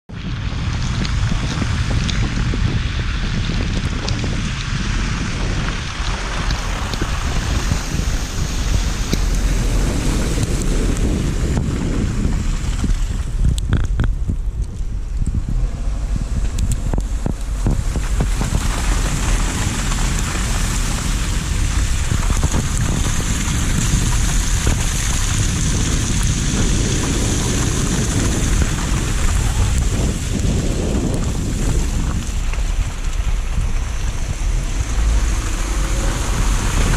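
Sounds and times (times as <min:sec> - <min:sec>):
wind noise on microphone: 0:00.0 - 0:36.9.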